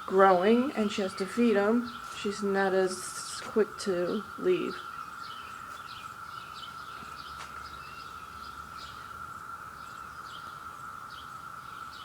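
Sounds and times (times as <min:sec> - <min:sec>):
cicada chorus droning: 0:00.0 - 0:12.0.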